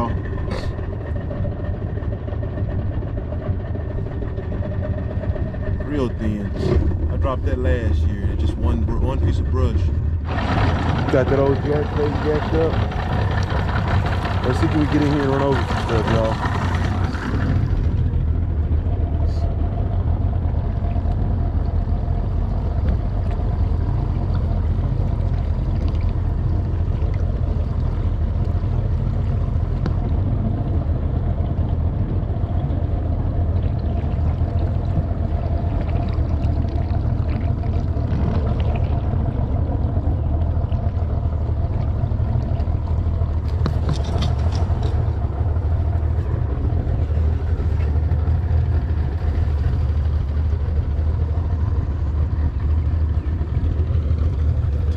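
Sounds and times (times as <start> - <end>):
outboard motor running: 0.0 - 54.9.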